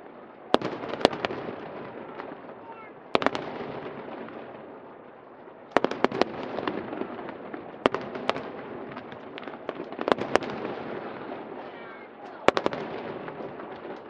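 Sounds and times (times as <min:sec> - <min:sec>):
fireworks bangs: 0:00.0 - 0:14.0
fireworks crackle: 0:00.0 - 0:14.0.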